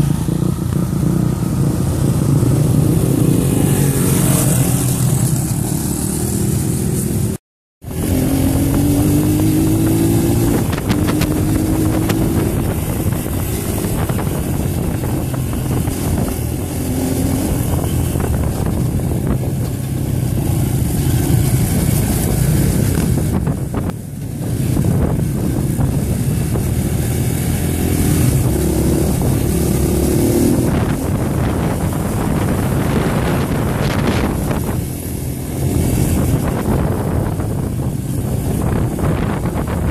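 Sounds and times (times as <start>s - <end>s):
dirt bike engine revving: 0.0s - 23.9s, 24.5s - 37.4s
wind buffeting microphone: 0.0s - 39.9s.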